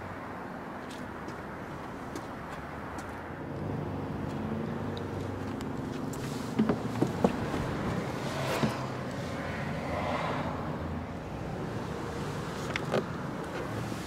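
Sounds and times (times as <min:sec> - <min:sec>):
low vehicle hum: 0:00.0 - 0:14.0.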